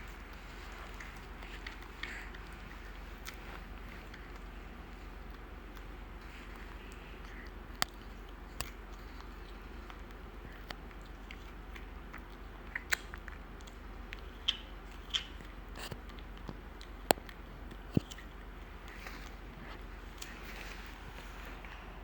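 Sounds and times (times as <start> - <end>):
chewing and crunching: 0.0 - 21.9
steady low hum: 0.0 - 22.0.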